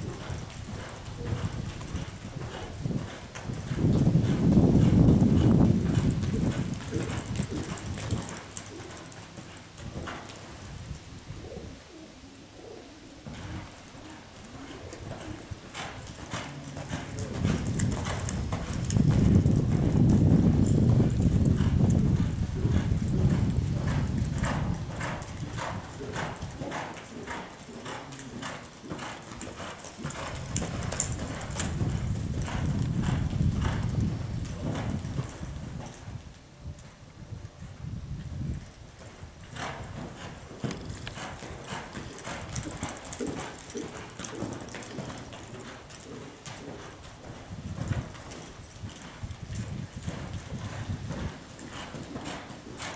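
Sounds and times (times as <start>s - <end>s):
horse hoofbeats on dirt: 0.0s - 11.0s, 13.2s - 36.9s, 37.6s - 52.9s.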